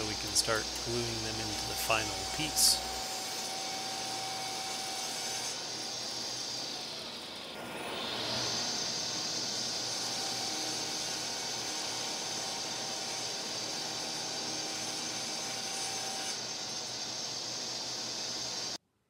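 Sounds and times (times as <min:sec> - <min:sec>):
table saw whining: 0:00.0 - 0:18.8.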